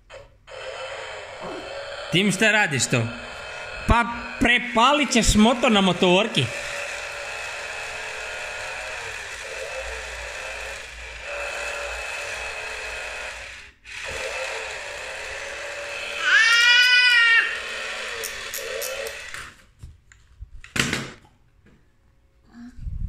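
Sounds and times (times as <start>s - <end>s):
toy chainsaw electronic engine sound: 0.1s - 19.5s.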